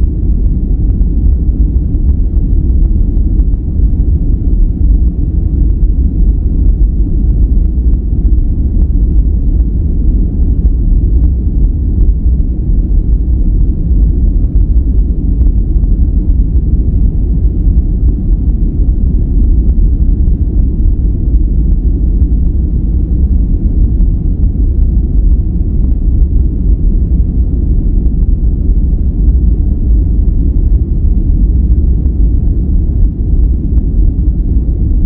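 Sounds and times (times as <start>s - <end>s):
deep rumbling noise: 0.0s - 35.0s.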